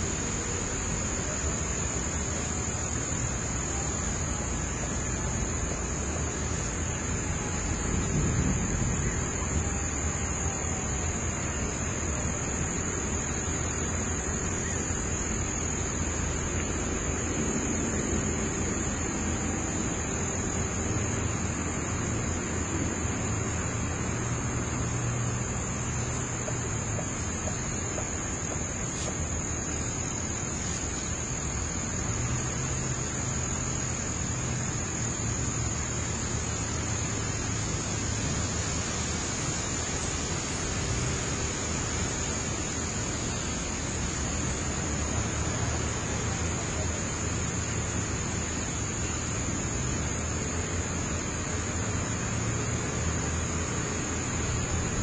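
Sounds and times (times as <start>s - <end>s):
constant hiss: 0.0s - 55.0s
high-pitched insect trill: 0.0s - 55.0s.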